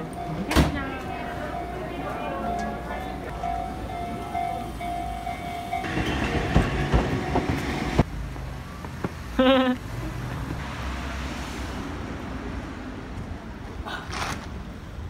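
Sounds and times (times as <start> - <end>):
train rumbling over crossing: 0.0 - 13.8
street ambience: 0.0 - 15.0.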